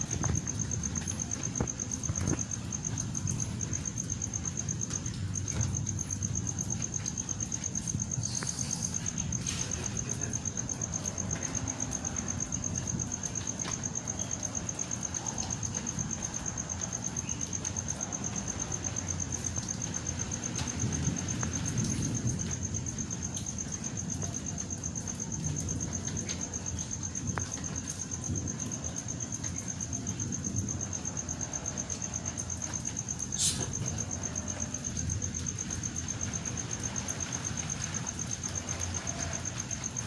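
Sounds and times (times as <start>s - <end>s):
cricket chirping trill: 0.0s - 40.0s.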